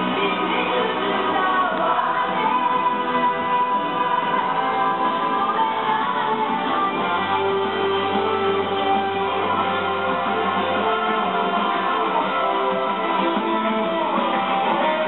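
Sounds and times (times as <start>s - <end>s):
background music led by guitar: 0.0s - 15.0s.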